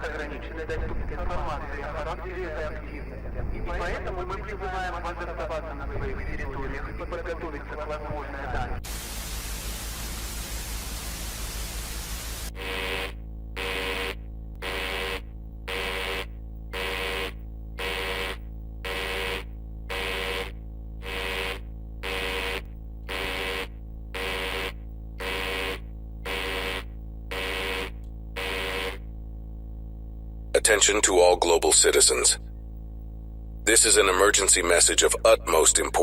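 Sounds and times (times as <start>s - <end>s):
radio static hiss: 0.0s - 15.2s, 15.8s - 29.1s, 30.5s - 32.4s, 33.6s - 36.0s
low electrical hum: 0.0s - 36.0s.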